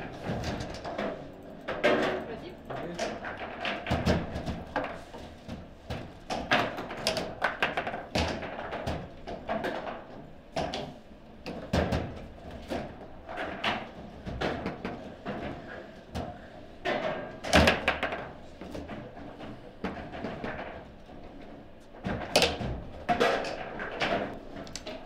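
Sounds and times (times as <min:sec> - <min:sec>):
table football clacks and thuds: 0:00.0 - 0:25.0.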